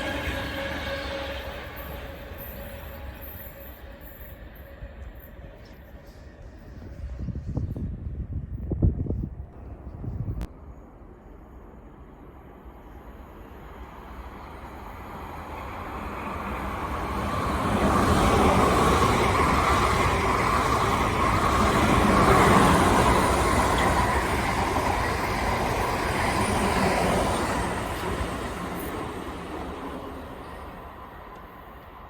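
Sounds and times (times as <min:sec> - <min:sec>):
passenger train passing: 0:00.0 - 0:32.0.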